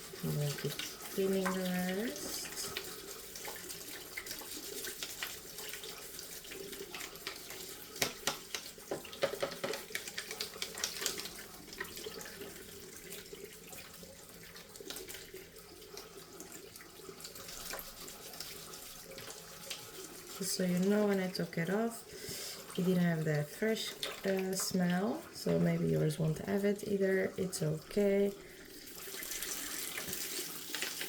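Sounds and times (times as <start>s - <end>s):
toothbrush scrubbing plastic: 0.0s - 27.0s
tap water running into sink: 0.0s - 31.0s.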